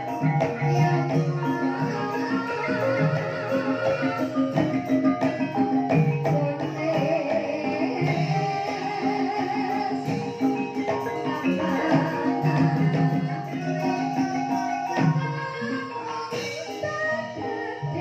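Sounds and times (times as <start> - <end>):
gamelan ensemble playing: 0.0 - 18.0
mallet-struck metallophones: 0.0 - 18.0
wavering melodic line: 0.0 - 18.0.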